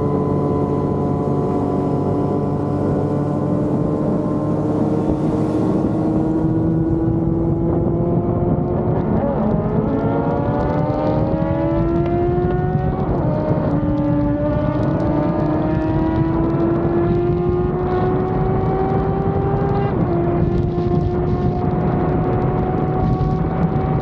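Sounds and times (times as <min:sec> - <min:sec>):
wind noise: 0:00.0 - 0:24.0.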